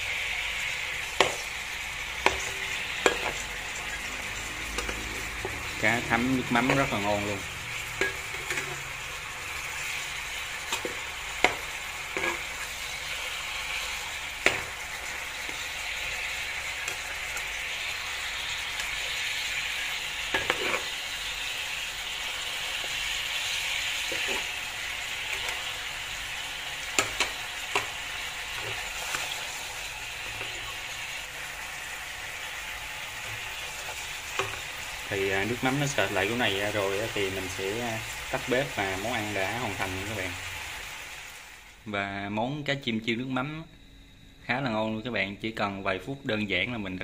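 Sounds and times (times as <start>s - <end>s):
sauce sizzling in a frying pan: 0.0s - 41.9s.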